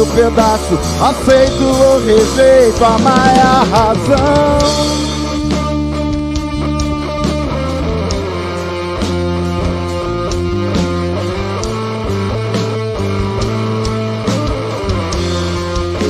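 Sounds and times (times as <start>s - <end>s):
bass guitar: 0.0s - 16.0s
drum kit steady beat: 0.0s - 16.0s
electric guitar lines: 0.0s - 16.0s.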